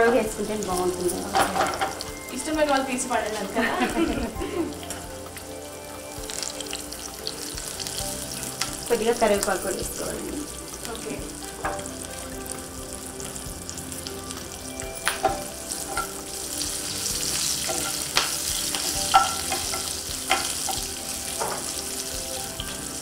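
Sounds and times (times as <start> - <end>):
chillies sizzling in hot oil: 0.0 - 23.0.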